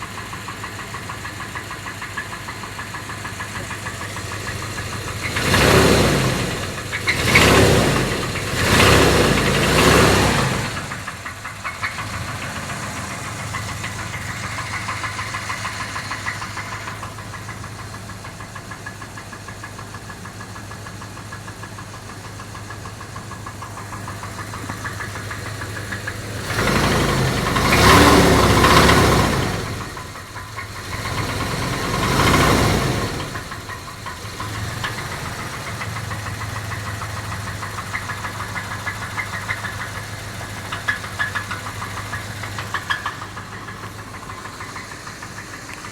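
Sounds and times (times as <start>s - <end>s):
fast even engine knock: 0.0s - 45.9s
car engine revving: 2.7s - 18.8s, 21.2s - 45.9s.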